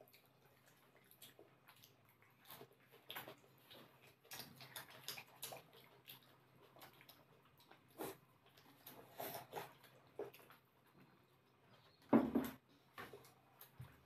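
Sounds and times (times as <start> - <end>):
chewing and mouth sounds: 0.0 - 12.0.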